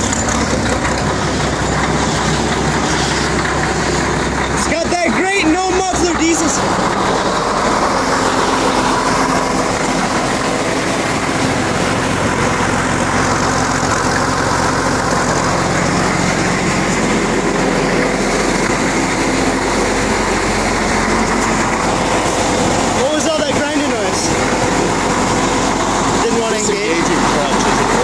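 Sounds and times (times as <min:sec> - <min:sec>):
crane engine running: 0:00.0 - 0:28.0.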